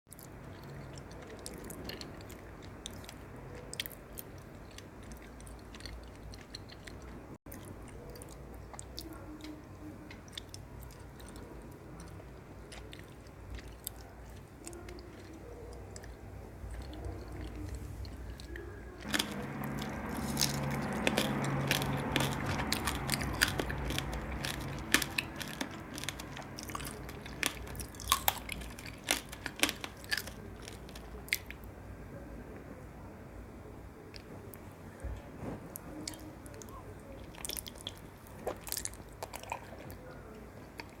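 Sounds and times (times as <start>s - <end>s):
person chewing crunchy sweets: 0.1s - 31.7s, 35.7s - 41.0s.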